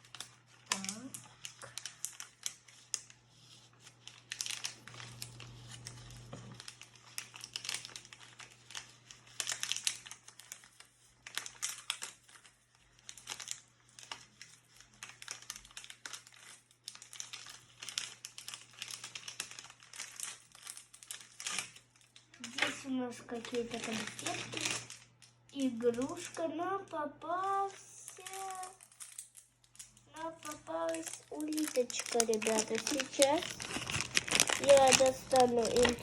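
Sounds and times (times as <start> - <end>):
plastic wrapper crinkling and tearing: 0.0 - 36.0.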